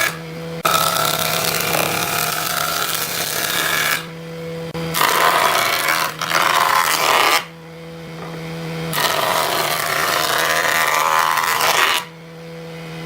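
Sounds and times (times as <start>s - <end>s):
power tool grinding into wood: 0.0s - 4.2s, 4.8s - 7.6s, 8.2s - 12.2s.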